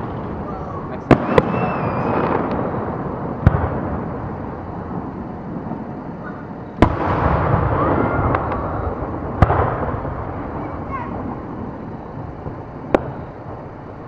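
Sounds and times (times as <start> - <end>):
distant fireworks: 0.0 - 14.0
firework shells bursting: 0.0 - 14.0.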